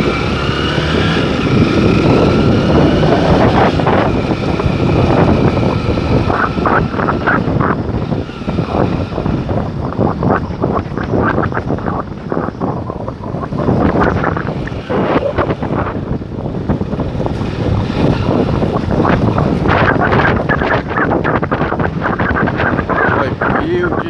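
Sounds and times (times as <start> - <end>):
vehicle engine pulling away: 0.0 - 24.0
wind buffeting microphone: 0.0 - 24.0.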